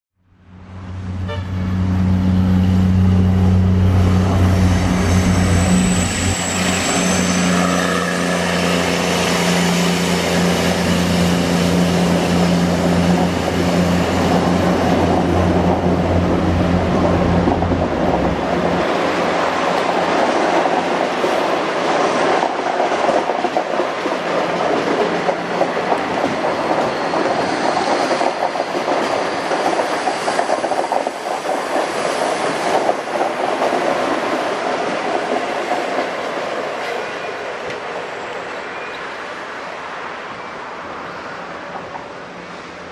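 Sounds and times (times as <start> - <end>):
diesel locomotive drone: 0.2 - 42.9.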